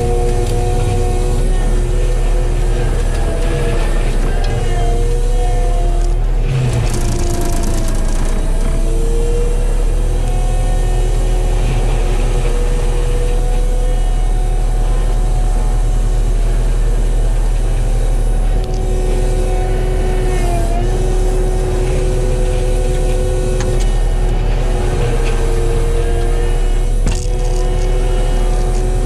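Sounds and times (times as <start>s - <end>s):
diesel engine running hard: 0.0s - 29.0s
hydraulic whine: 0.0s - 29.0s.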